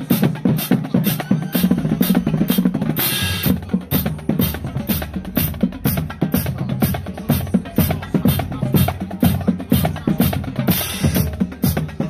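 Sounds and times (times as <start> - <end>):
bass drums: 0.0 - 12.0
snare drums: 0.0 - 12.0.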